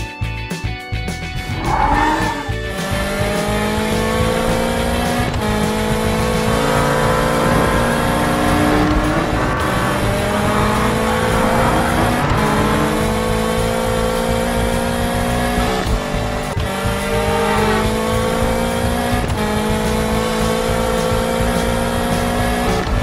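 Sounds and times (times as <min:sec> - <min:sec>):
race car engine accelerating: 0:01.3 - 0:23.0.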